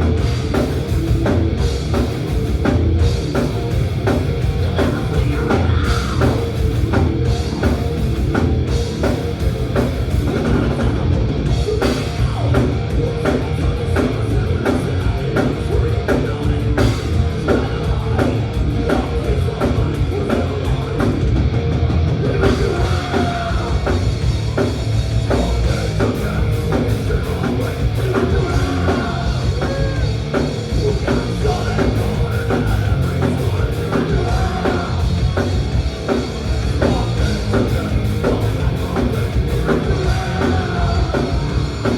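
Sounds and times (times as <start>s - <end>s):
distorted guitars and bass: 0.0s - 41.9s.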